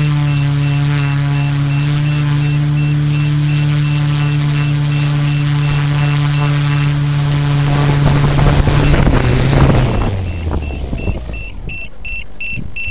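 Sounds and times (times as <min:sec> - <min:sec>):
propeller wash rushing: 0:00.0 - 0:11.7
drone motors humming: 0:00.0 - 0:12.9.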